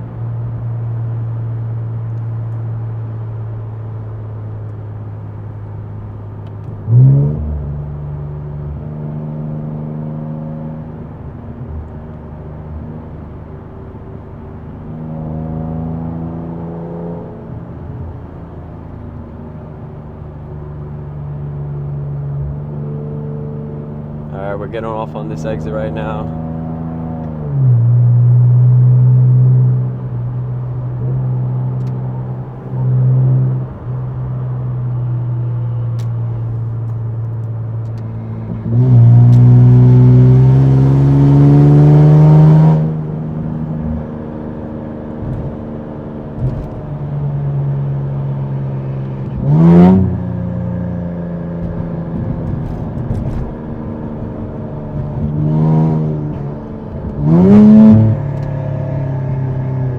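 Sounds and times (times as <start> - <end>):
car engine droning and revving: 0.0 - 59.9.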